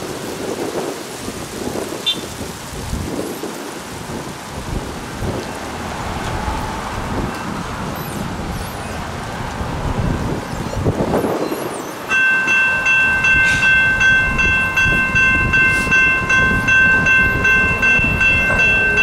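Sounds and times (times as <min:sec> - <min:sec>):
gusty wind on microphone: 0:00.0 - 0:19.0.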